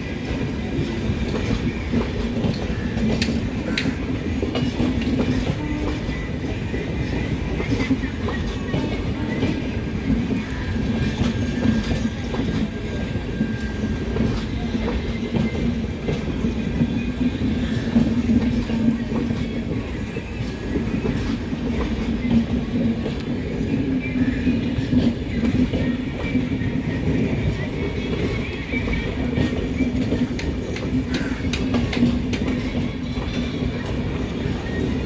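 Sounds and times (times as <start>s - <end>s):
train wheels rumbling on rails: 0.0s - 35.0s
wheels clicking over rail joints: 0.2s - 35.0s.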